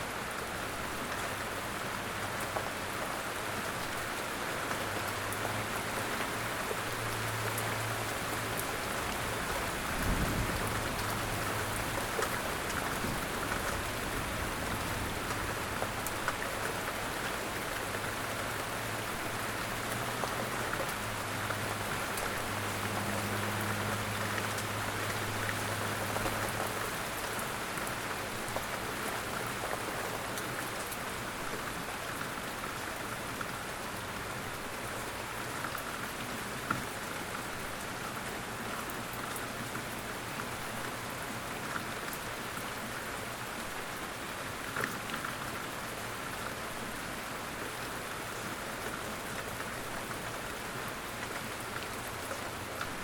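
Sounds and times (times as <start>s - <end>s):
light rain falling: 0.0s - 53.0s
raindrops ticking close by: 0.2s - 53.0s.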